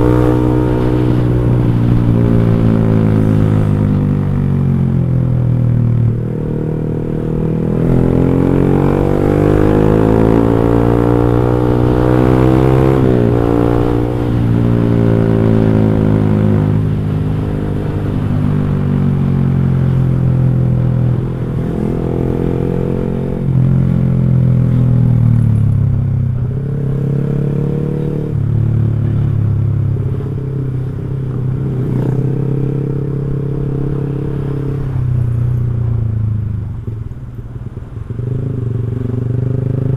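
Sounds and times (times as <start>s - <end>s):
motorcycle exhaust accelerating: 0.0s - 39.9s.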